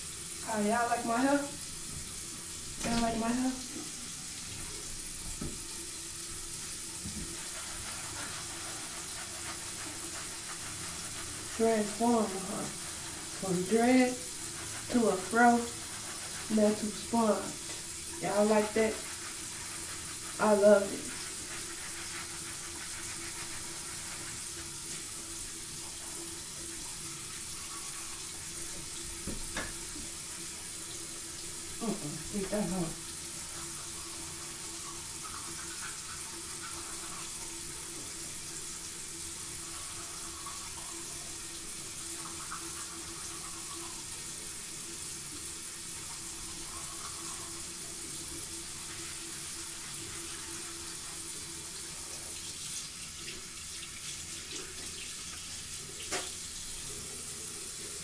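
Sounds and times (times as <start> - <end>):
sink tap running: 0.0 - 58.0.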